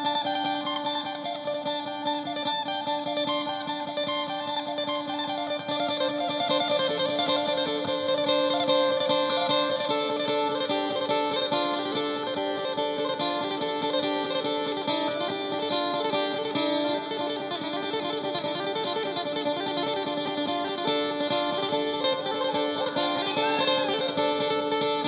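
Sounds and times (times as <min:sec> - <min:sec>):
picked electric lute melody: 0:00.0 - 0:25.0.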